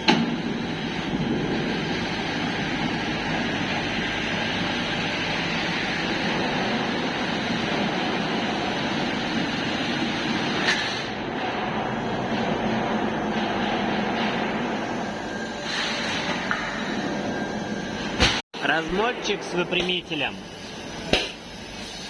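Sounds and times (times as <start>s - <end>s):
industrial machine hiss and hum: 0.0s - 22.0s.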